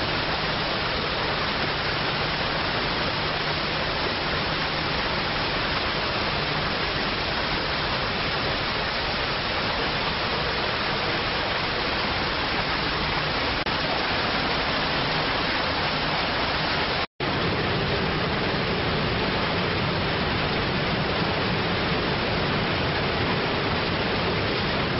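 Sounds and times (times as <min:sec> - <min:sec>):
rushing hiss of churned water: 0:00.0 - 0:24.9.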